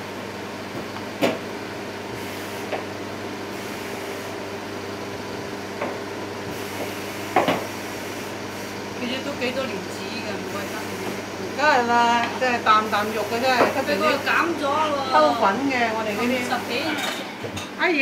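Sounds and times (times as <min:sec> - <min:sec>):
steady room hum: 0:00.0 - 0:18.0.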